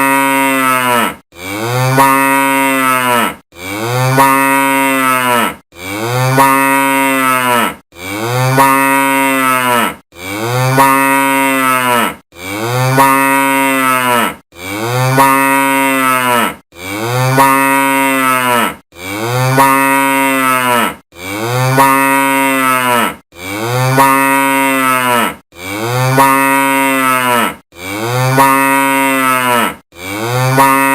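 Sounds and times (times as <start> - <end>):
cow mooing: 0.0 - 30.9.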